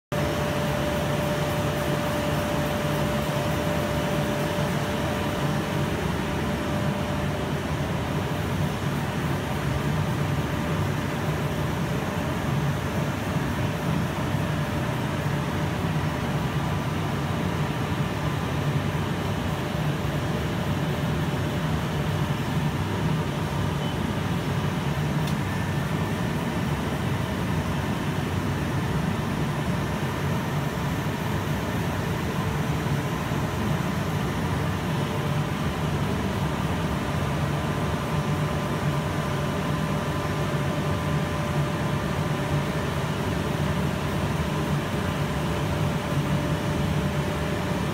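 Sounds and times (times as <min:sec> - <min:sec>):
lathe mechanical hum: 0:00.1 - 0:47.9.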